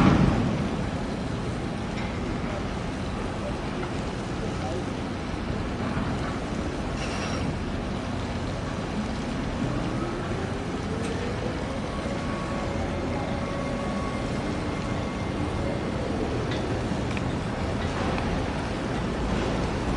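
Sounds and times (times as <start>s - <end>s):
low engine rumble: 0.0s - 19.9s.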